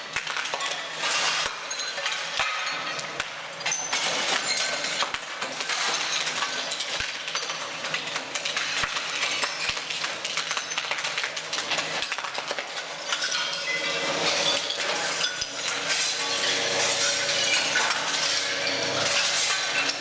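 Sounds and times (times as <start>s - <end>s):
floor tiles cracking: 0.0s - 20.0s
tile shards clinking and scraping: 0.0s - 20.0s.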